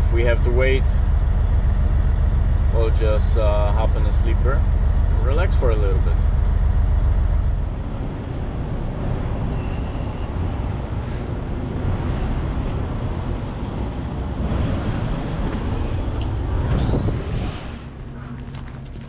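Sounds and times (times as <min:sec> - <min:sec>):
road noise: 0:00.0 - 0:19.0
truck engine rumble: 0:00.0 - 0:19.0.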